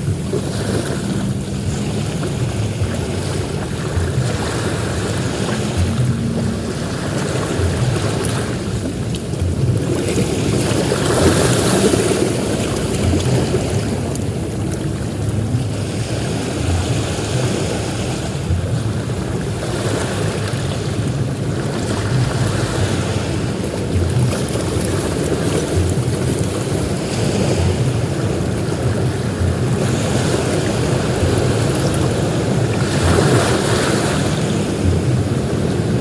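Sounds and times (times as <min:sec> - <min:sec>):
ocean surf breaking on beach: 0:00.0 - 0:36.0.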